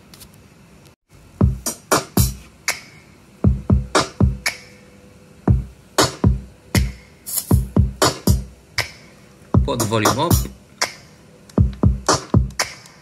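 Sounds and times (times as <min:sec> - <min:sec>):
music with punchy drum beat: 0:01.4 - 0:04.7, 0:05.5 - 0:13.0.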